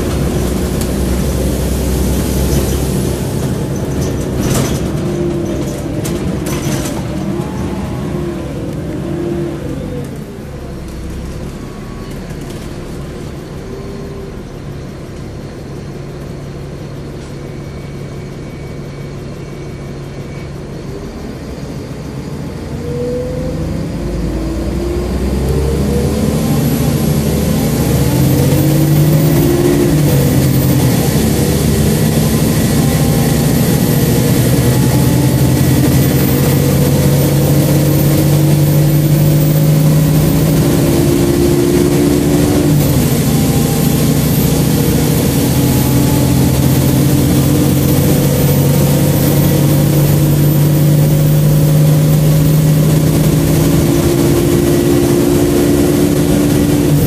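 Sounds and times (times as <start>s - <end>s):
bus diesel engine shifting gears: 0.0s - 18.3s, 20.0s - 57.0s.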